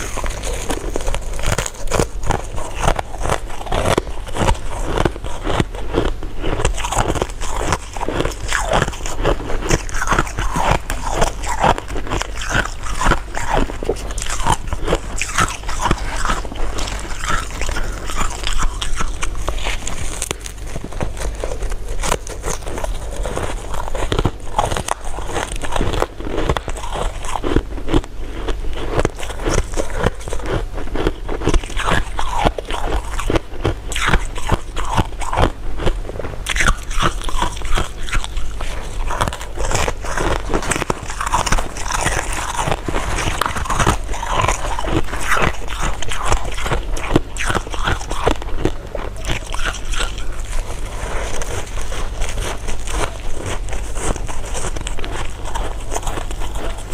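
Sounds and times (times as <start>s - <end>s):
chewing and crunching candy: 0.0s - 56.9s
steady low hum: 0.0s - 56.9s.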